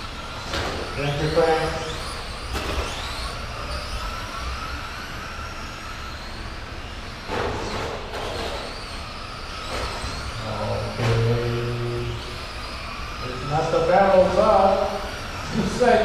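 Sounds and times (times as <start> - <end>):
rc truck motors whining: 0.0 - 16.0.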